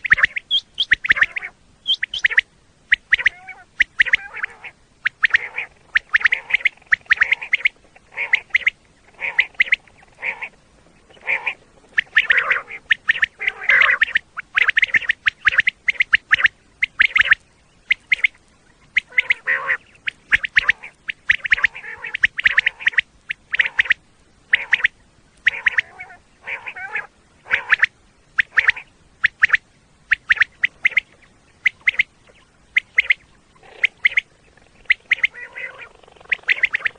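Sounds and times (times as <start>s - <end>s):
quail calling: 0.0s - 36.9s.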